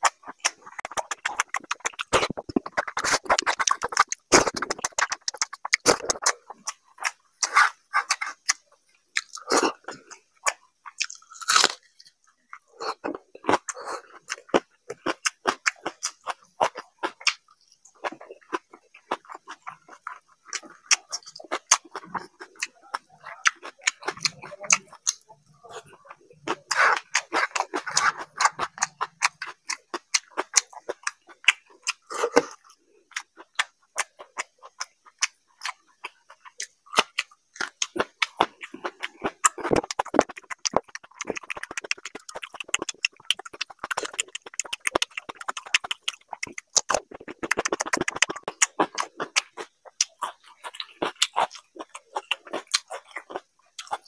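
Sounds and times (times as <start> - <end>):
chewing and lip smacking: 0.0 - 54.0.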